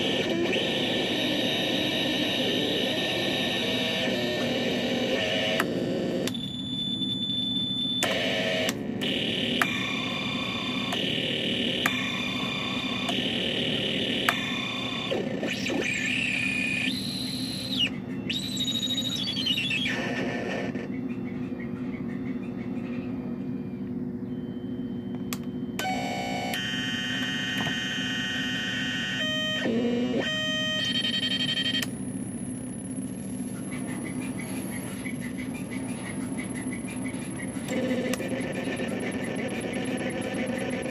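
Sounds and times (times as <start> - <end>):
synthesizer tones: 0.0 - 21.1, 23.5 - 40.9
high synthesizer whine: 0.0 - 40.9.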